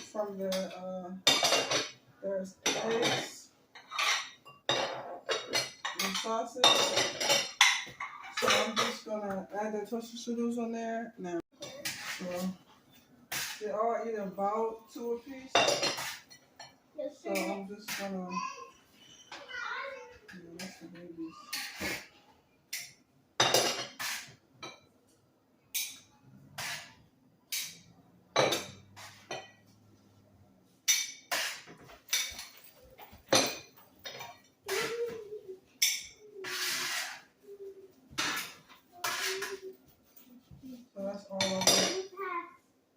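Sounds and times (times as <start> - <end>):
plates and utensils clinking: 0.0 - 10.2, 11.6 - 13.8, 14.5 - 22.1, 22.7 - 25.0, 25.7 - 30.0, 30.8 - 42.1.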